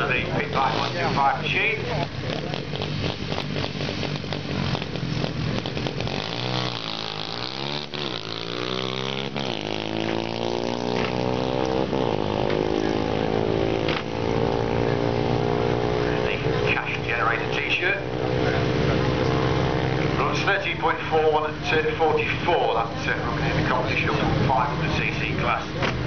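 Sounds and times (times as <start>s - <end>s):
racing motorcycle engine revving: 0.0s - 26.0s.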